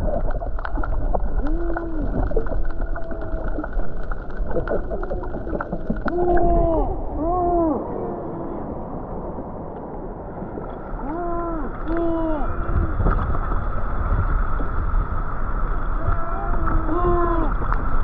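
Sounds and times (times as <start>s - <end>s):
low rumble: 0.0s - 18.0s
water wash: 0.0s - 18.0s
wind noise: 0.0s - 18.0s.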